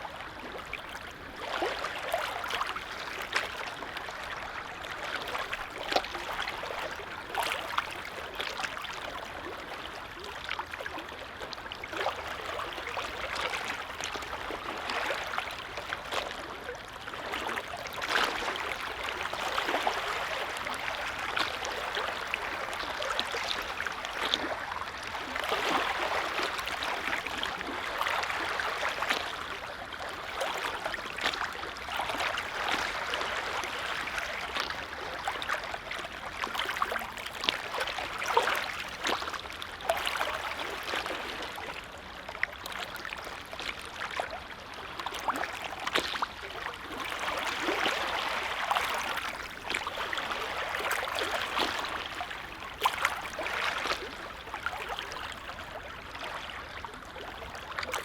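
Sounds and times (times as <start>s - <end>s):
small waves lapping at shore: 0.0s - 58.0s.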